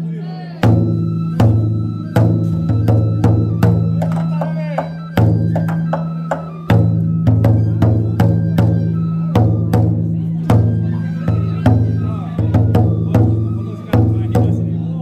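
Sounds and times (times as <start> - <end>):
taiko drum beaten with sticks: 0.5 - 15.0.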